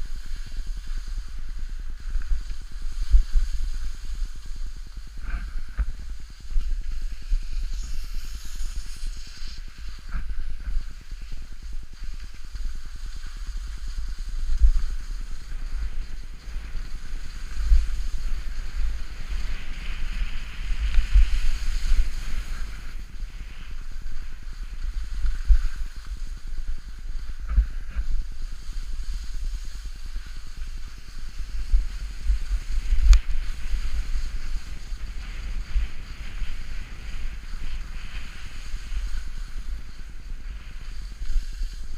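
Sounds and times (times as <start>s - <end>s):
skis sliding on snow: 0.0s - 41.9s
wind buffeting microphone: 0.0s - 41.9s.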